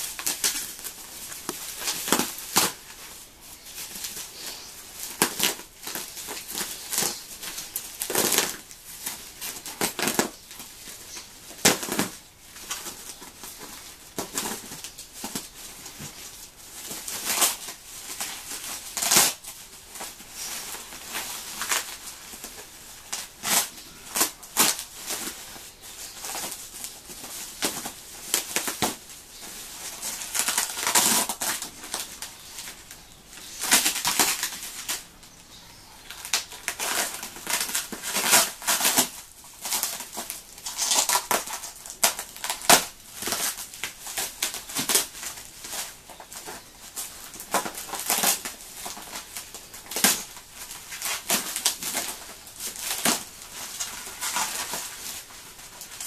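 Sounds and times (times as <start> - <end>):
bubble wrap rustling and crinkling: 0.0 - 56.0.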